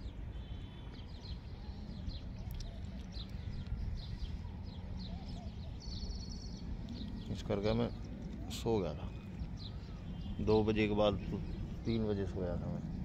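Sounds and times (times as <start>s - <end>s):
small birds chirping: 0.0s - 13.0s
low steady rumble: 1.4s - 13.0s.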